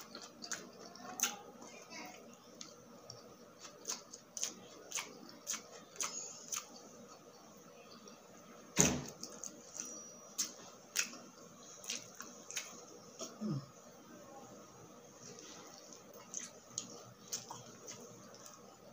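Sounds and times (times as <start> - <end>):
chewing with wet mouth clicks: 0.0 - 8.1, 9.2 - 13.4, 15.7 - 18.7.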